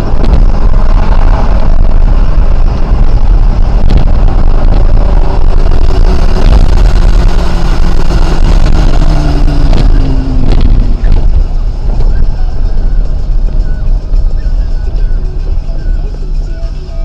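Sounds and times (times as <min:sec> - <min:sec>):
car engine at speed: 0:00.0 - 0:17.0
road noise: 0:00.0 - 0:17.0.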